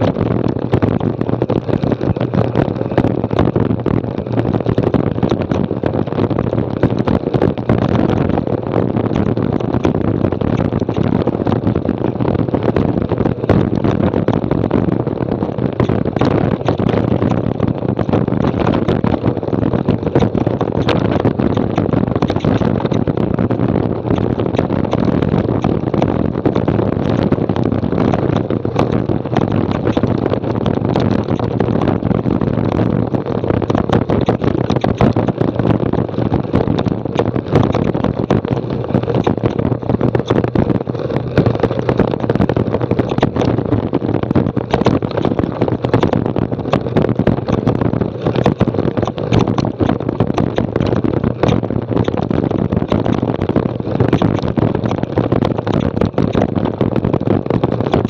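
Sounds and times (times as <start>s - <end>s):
bike rattling: 0.0s - 58.0s
wind on microphone: 0.0s - 58.0s.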